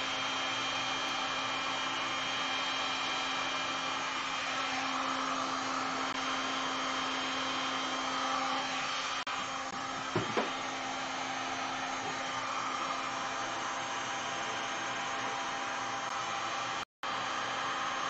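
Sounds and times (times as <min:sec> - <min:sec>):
heat gun blowing air: 0:00.0 - 0:18.0.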